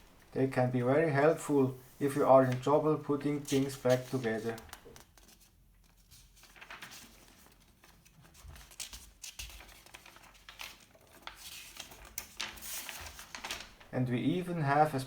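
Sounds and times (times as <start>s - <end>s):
paper crinkling: 0.0s - 14.9s
paper pages turning and rustling: 0.1s - 14.0s.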